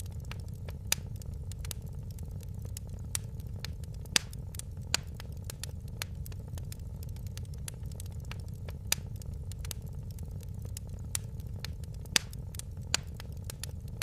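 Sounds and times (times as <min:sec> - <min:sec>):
fire crackling in fireplace: 0:00.0 - 0:14.0.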